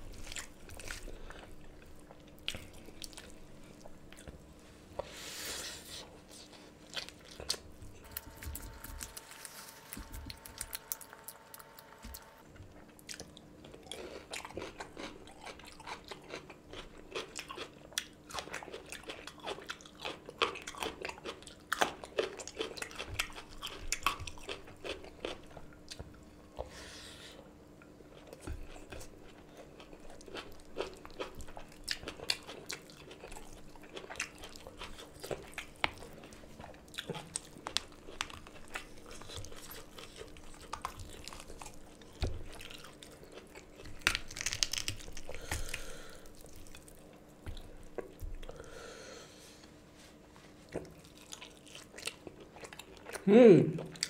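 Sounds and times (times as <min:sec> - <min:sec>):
close chewing with wet smacks: 0:00.0 - 0:04.4, 0:06.4 - 0:26.8, 0:28.1 - 0:48.6, 0:50.7 - 0:54.0
faint steady hum: 0:00.0 - 0:54.0.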